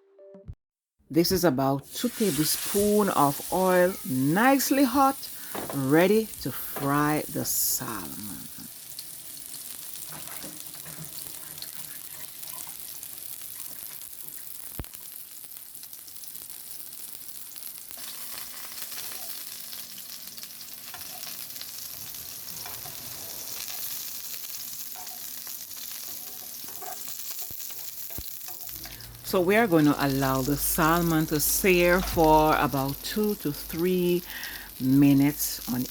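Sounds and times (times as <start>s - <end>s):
fish sizzling in a pan: 1.9s - 35.9s.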